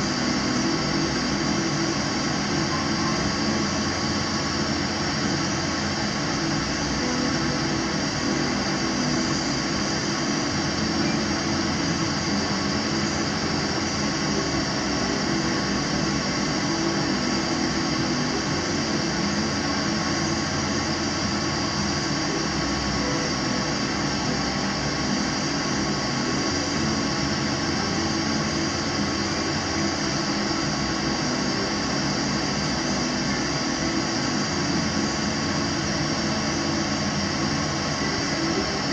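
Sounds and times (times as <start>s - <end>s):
gas burner flame rushing: 0.0s - 38.9s.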